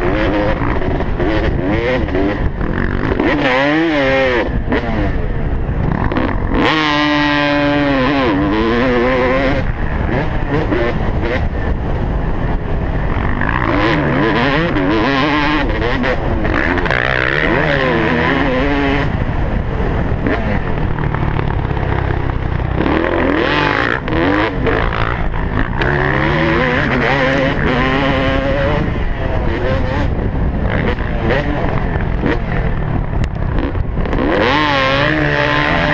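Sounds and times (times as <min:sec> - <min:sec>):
motocross bike engine revving: 0:00.0 - 0:35.9.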